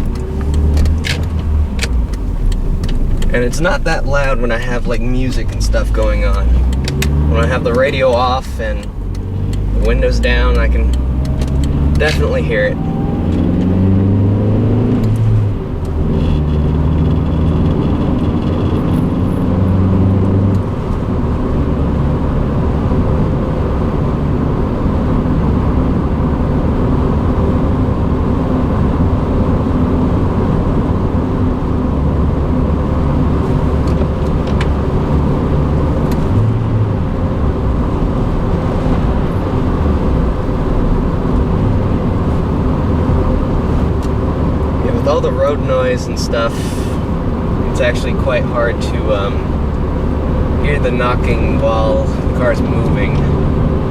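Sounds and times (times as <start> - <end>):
car engine hum: 0.0 - 53.9
road and tyre noise: 0.0 - 53.9.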